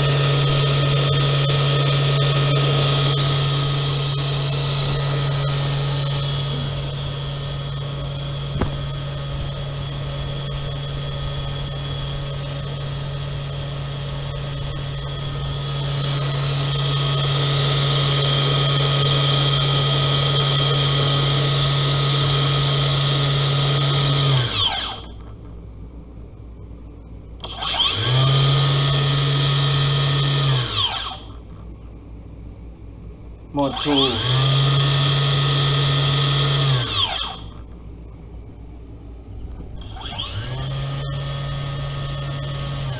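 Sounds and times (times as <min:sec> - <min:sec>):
blower high whine: 0:00.0 - 0:42.9
motor hum: 0:00.0 - 0:42.9.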